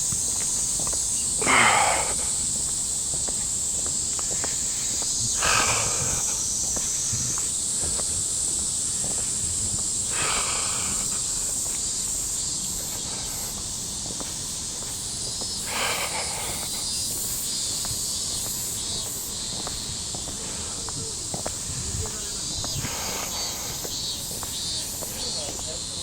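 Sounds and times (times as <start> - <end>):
cicadas buzzing: 0.0 - 26.0
faint footsteps on pavement: 0.0 - 26.0.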